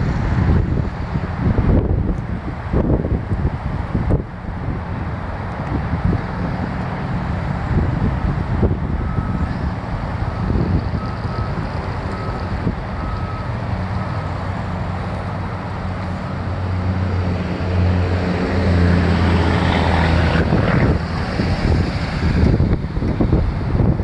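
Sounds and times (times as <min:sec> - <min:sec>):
diesel truck engine running: 0:00.0 - 0:24.0
road noise: 0:00.0 - 0:24.0
wind: 0:00.0 - 0:24.0.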